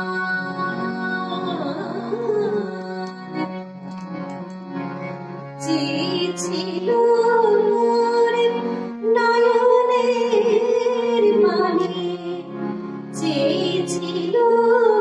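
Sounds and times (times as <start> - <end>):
woman singing into a microphone: 0.0 - 3.6, 5.6 - 15.0
held accompaniment chords: 0.0 - 15.0.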